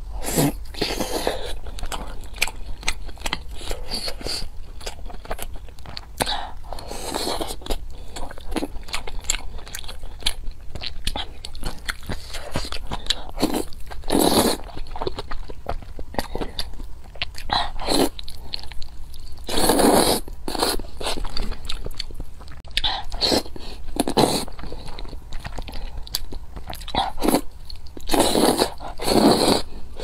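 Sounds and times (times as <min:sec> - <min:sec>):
chewing with wet mouth sounds: 0:00.3 - 0:30.0.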